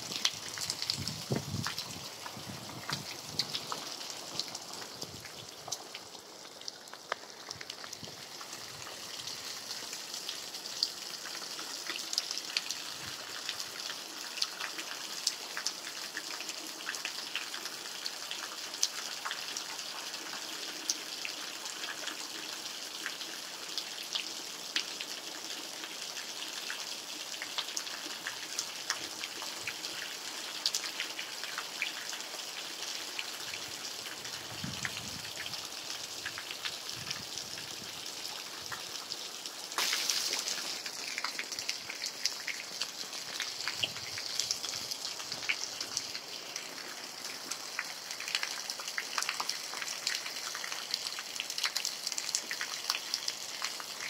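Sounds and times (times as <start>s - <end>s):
steady rain with drops ticking: 0.0s - 54.0s.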